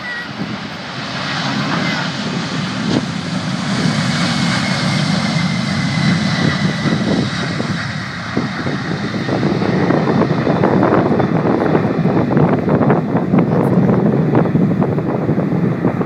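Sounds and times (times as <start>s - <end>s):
high jet whine: 0.0s - 16.0s
jet engines at takeoff: 0.0s - 16.0s
wind buffeting microphone: 0.0s - 16.0s.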